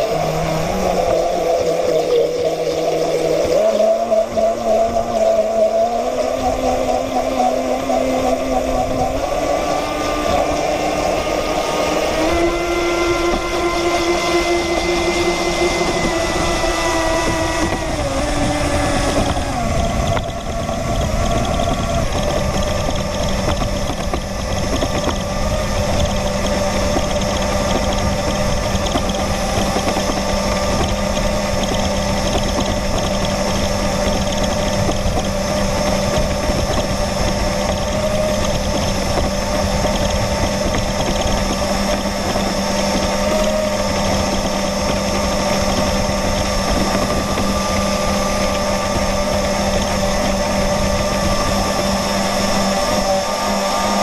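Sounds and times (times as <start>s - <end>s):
model boat motor whine: 0.0s - 54.0s
rushing water noise: 0.0s - 54.0s.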